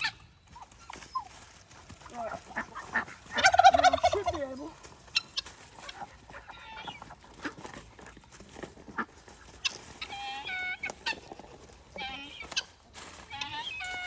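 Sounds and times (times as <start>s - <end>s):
poultry calling: 0.0s - 8.2s, 8.8s - 14.0s.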